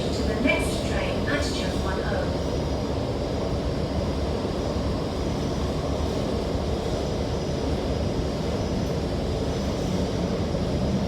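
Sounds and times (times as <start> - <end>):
metro train running rumble: 0.0 - 11.0.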